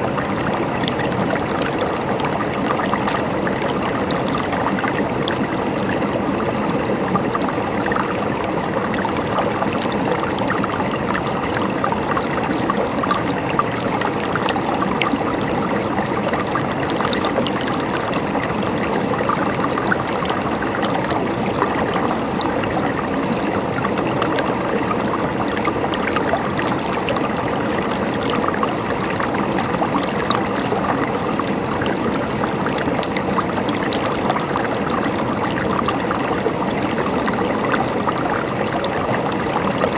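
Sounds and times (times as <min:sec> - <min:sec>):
small stream flowing: 0:00.0 - 0:39.9.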